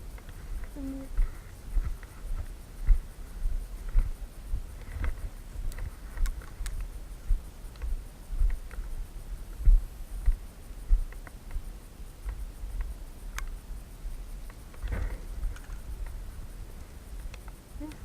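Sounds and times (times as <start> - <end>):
small clicks and rustles: 0.0 - 3.1, 3.8 - 18.0.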